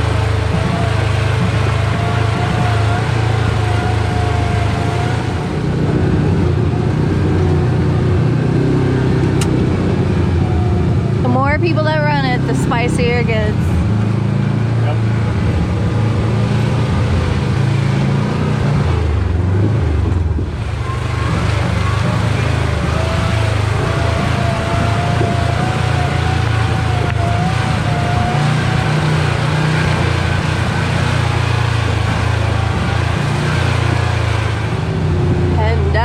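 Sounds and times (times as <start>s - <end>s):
vehicle engine under load: 0.0s - 36.0s.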